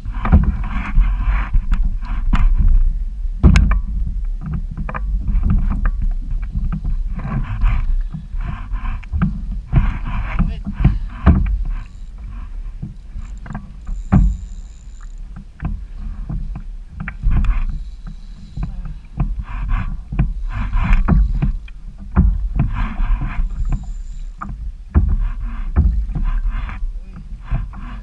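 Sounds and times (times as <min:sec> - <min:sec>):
water splashing against hull: 0:00.0 - 0:28.0
wind rumble on microphone: 0:00.0 - 0:28.0.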